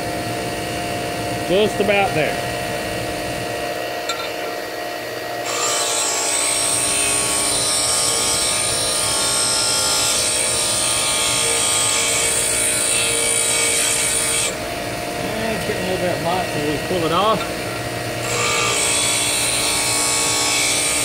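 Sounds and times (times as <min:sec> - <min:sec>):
bench grinder running: 0:00.0 - 0:21.0.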